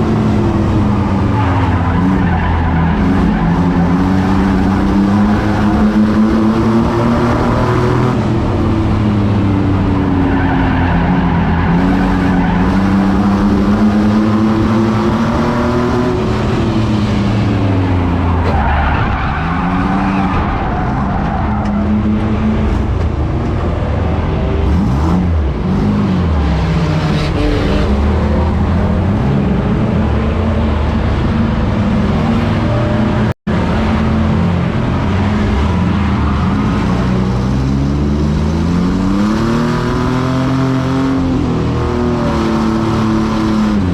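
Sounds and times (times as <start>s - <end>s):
racing truck engines: 0.0s - 43.9s.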